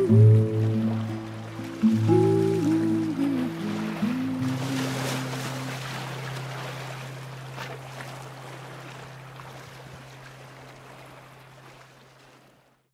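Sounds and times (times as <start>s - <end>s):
water lapping and trickling: 0.0s - 12.9s.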